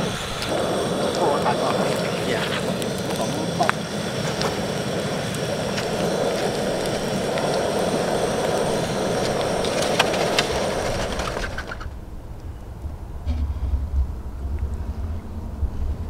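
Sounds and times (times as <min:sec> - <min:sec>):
gas stove burner running: 0:00.0 - 0:13.9.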